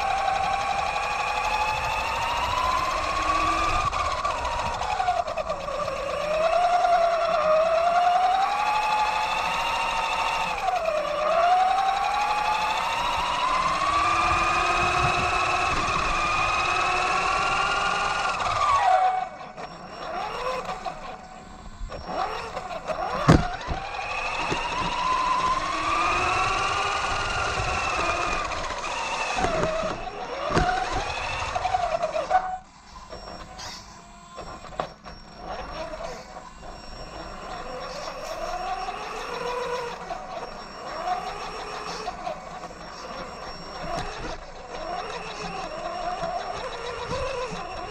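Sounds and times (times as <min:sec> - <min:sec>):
electric motor whining: 0:00.0 - 0:47.9.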